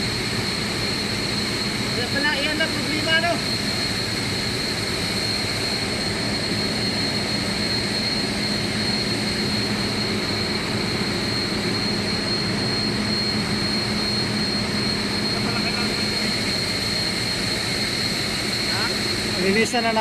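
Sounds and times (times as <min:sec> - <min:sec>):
industrial machinery drone: 0:00.0 - 0:20.0.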